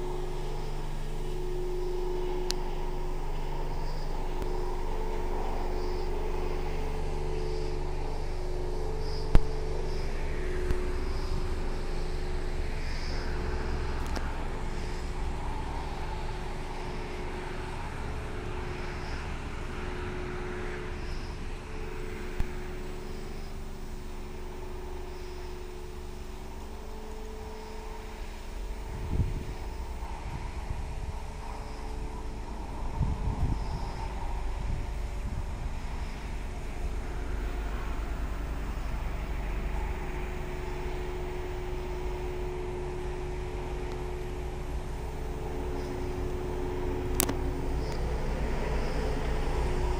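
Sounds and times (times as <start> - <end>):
small engine idling: 0.0 - 49.9.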